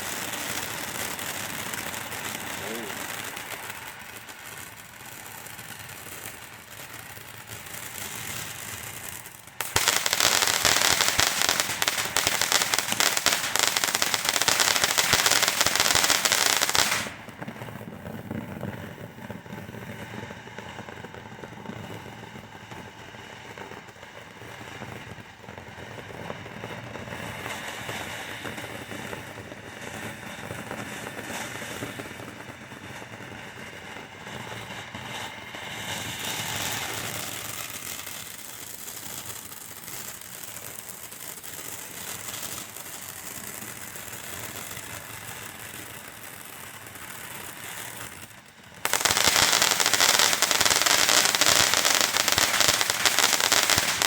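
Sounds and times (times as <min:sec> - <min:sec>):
firework crackling: 0:00.0 - 0:54.0
fountain firework hissing: 0:00.0 - 0:54.0.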